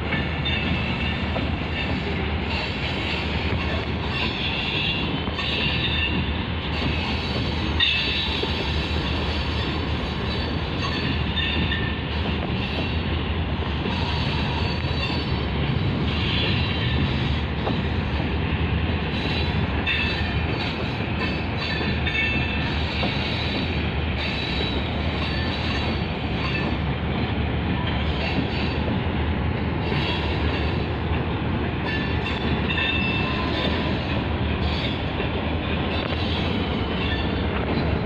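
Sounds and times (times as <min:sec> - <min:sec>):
rumble of train wheels on rail: 0:00.0 - 0:38.0.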